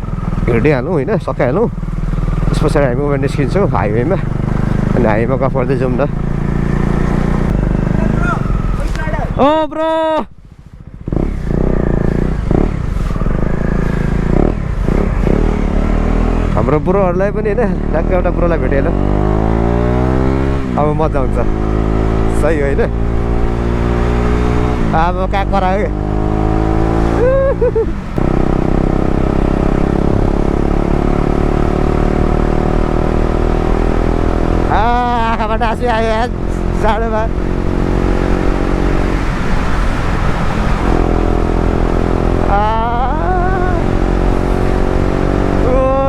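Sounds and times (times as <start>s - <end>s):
motorcycle engine while riding: 0.0s - 46.0s.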